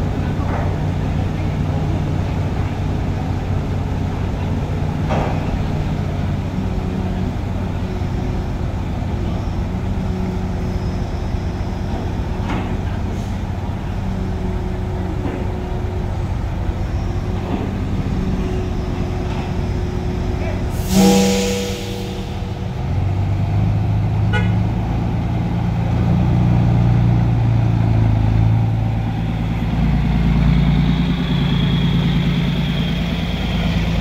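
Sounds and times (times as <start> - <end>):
heavy diesel engines droning: 0.0 - 34.0.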